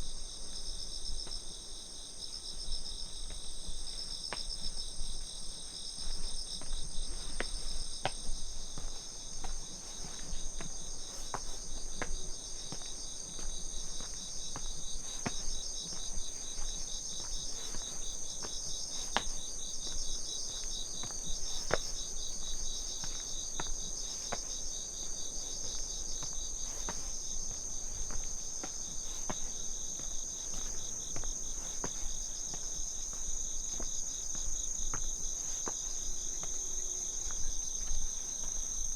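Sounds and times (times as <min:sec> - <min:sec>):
insects chirping chorus: 0:00.0 - 0:38.9
footsteps on path: 0:04.1 - 0:38.9.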